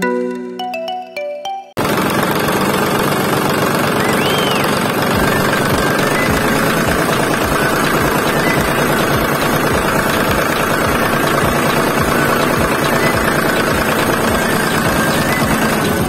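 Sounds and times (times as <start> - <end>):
tractor engine idling: 1.8 - 16.0.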